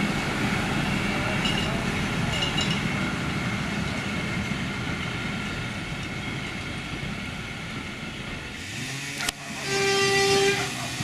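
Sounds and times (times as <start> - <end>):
train rolling on rails: 0.0 - 11.0.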